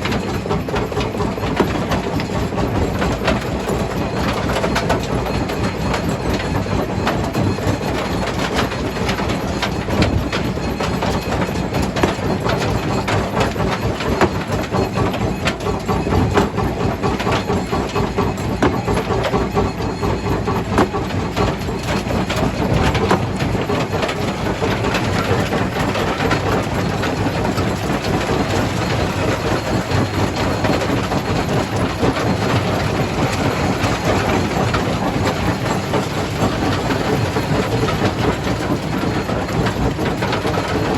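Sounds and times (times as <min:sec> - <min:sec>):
jaw crusher rumbling: 0:00.0 - 0:40.9.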